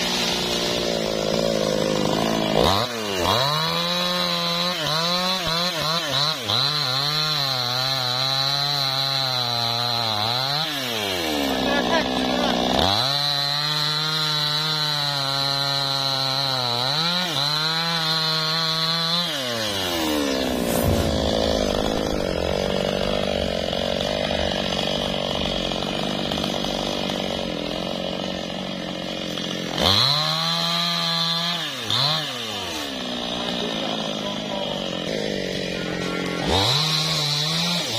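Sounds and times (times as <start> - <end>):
chainsaw cutting logs: 0.0 - 37.9.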